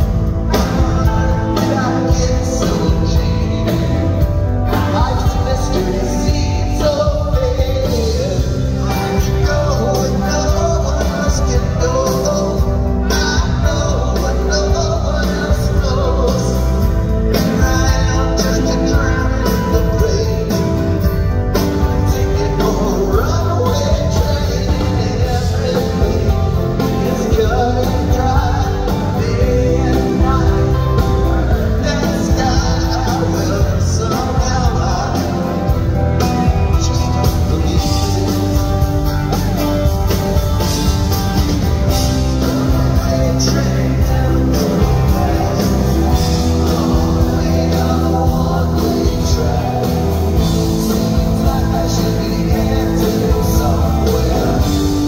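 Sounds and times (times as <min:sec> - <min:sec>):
person singing: 0:00.0 - 0:55.0
rock band playing live: 0:00.0 - 0:55.0.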